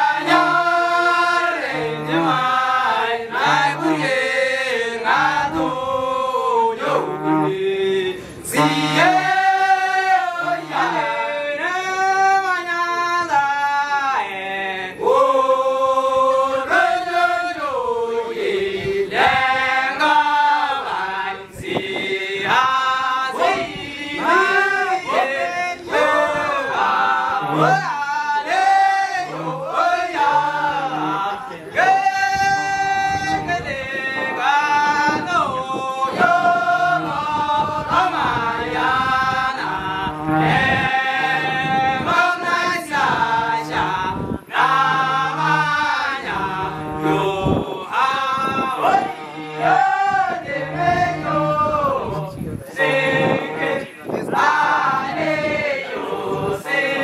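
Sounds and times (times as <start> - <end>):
low repeating vocal part: 0.0 - 12.5, 14.1 - 57.0
men singing in chorus: 0.0 - 57.0.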